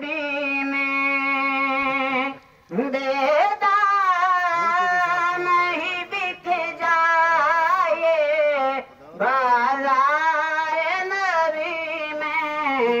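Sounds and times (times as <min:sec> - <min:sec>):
boy singing through loudspeaker: 0:00.0 - 0:13.0.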